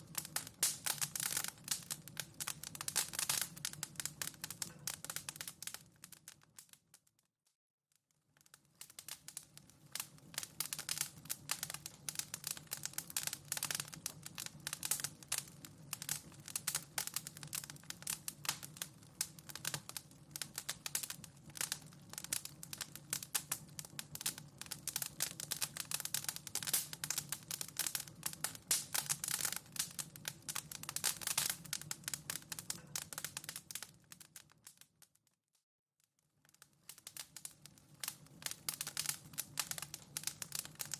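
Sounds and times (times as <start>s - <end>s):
wood fire crackling: 0.0s - 6.9s, 8.2s - 35.1s, 36.4s - 40.9s.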